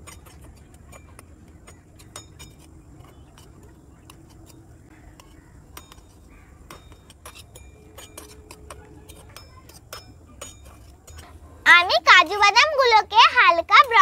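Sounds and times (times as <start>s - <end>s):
metal spatula scraping metal pan: 0.0s - 12.9s.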